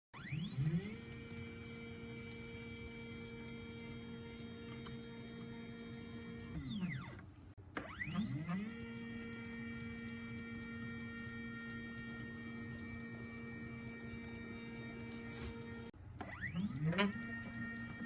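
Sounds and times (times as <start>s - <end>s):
router motor whining: 0.2s - 7.2s, 7.8s - 18.0s.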